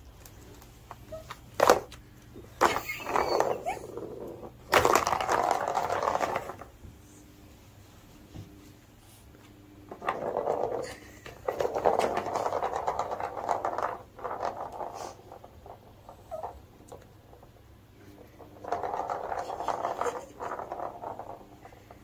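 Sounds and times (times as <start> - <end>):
ball rattling through plastic track: 0.8 - 6.8, 9.9 - 22.0.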